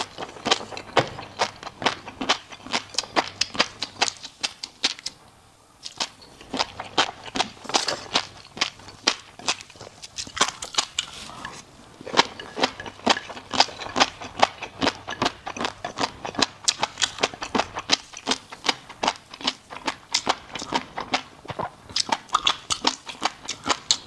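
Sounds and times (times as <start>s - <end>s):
crunchy food chewing: 0.0s - 24.0s.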